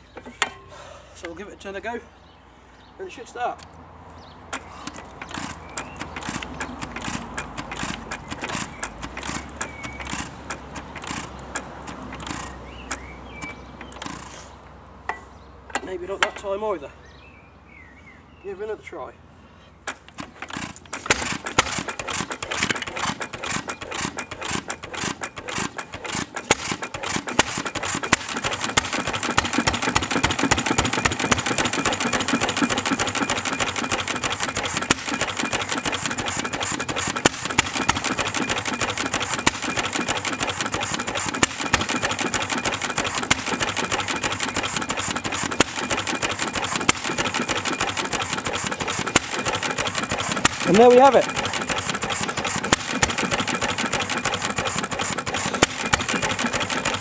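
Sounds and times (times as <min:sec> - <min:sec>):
stationary petrol engine running: 0:04.5 - 0:14.4, 0:19.9 - 0:57.0.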